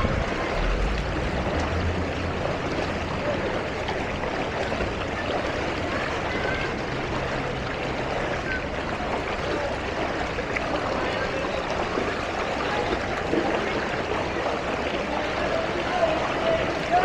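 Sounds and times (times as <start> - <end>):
low engine hum: 0.0 - 17.0
moving water: 0.0 - 17.0.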